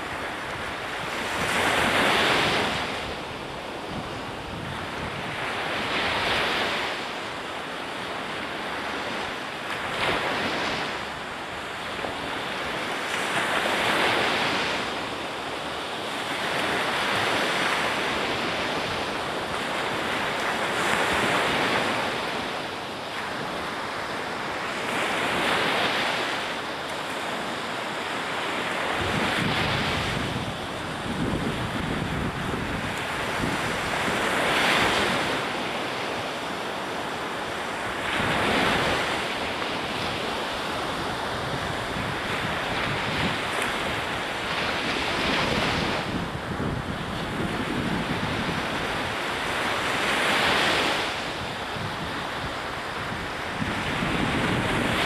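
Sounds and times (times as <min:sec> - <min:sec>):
surf breaking on beach: 0:00.0 - 0:55.0
wind on microphone: 0:00.0 - 0:55.0.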